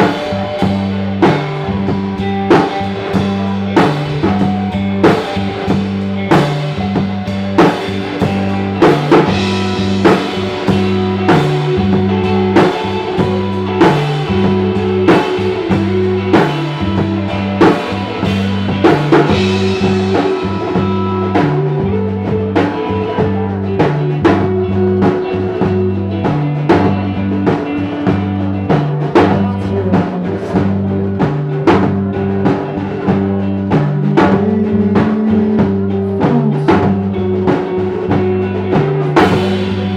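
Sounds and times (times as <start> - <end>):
bass guitar line: 0.0 - 39.9
drum kit beat: 0.0 - 39.9
guitars: 0.0 - 39.9.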